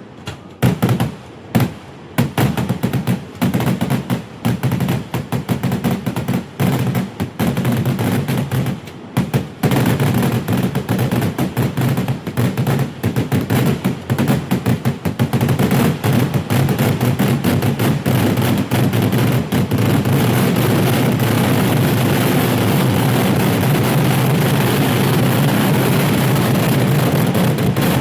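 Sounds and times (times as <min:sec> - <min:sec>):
firecracker bangs: 0:00.6 - 0:28.0.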